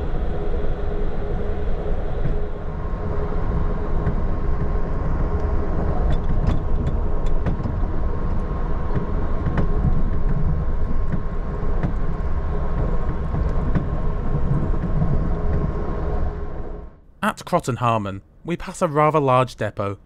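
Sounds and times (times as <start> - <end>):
train wheels rumbling on rails: 0.0 - 16.9
faint steady hum: 0.0 - 20.0.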